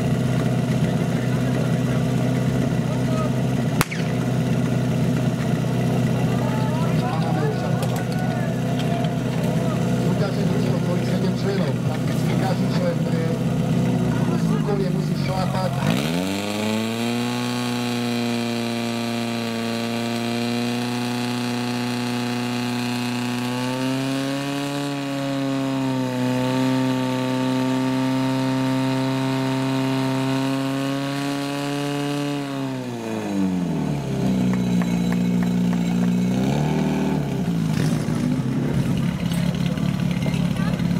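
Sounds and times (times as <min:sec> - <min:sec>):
pump engine running: 0:00.0 - 0:40.9.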